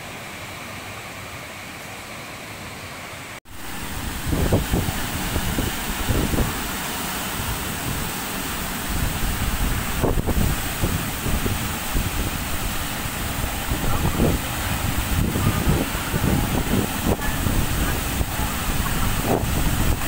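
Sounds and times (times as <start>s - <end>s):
waterfall roaring: 0.0s - 20.0s
wind buffeting microphone: 3.6s - 20.0s.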